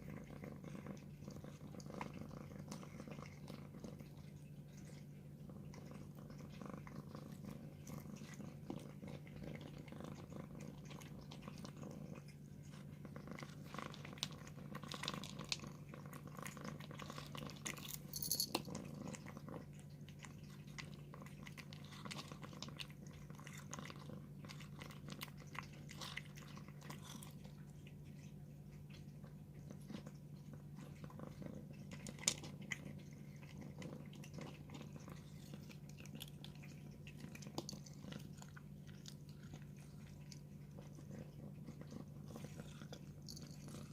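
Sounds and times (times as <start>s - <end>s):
cat chewing food: 0.0s - 43.9s
cat purring: 0.0s - 43.9s.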